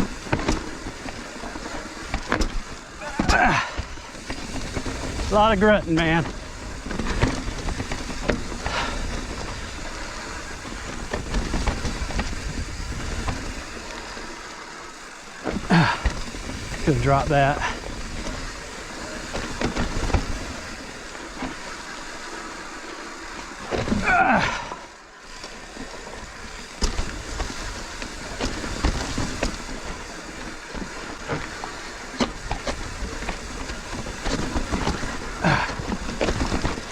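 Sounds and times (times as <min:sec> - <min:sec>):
bike rattling: 0:00.0 - 0:36.9
bike tyres rumbling: 0:00.0 - 0:36.9.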